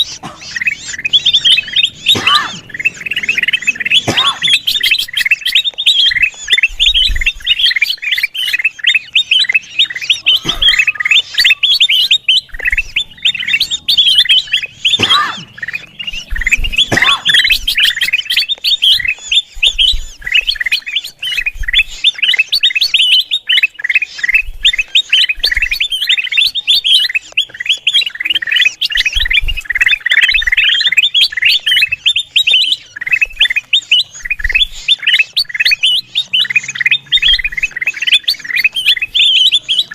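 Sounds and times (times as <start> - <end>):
bulbul chattering: 0.0 - 39.9.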